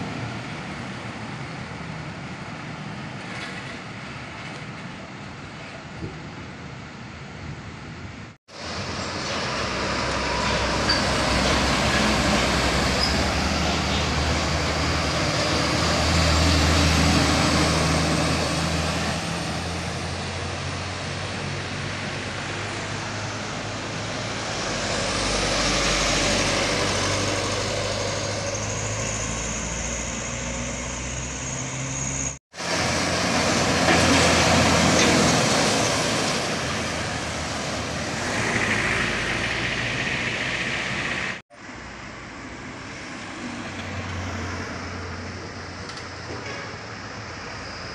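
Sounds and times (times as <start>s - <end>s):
heavy trucks driving past: 8.5s - 47.9s.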